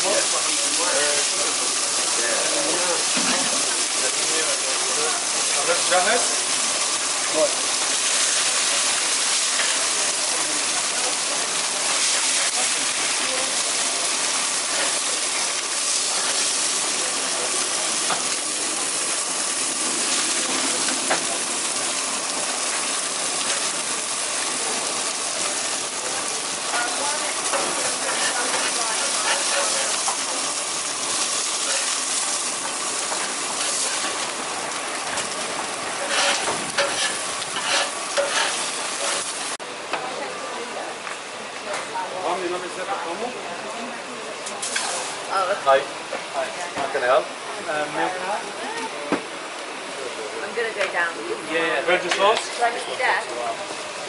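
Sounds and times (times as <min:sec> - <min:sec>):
fish sizzling on a grill: 0:00.0 - 0:54.0.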